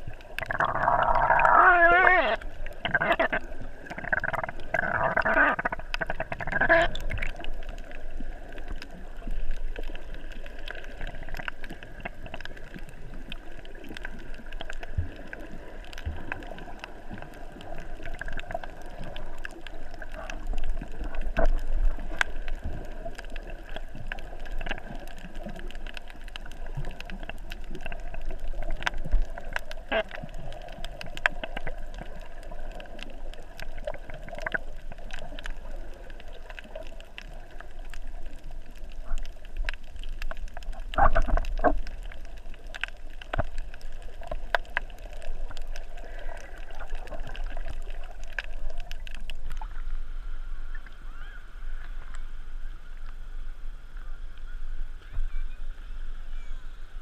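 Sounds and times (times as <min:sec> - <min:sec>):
gurgling bubbles: 0:00.0 - 0:52.4
muffled underwater water movement: 0:00.0 - 0:57.0.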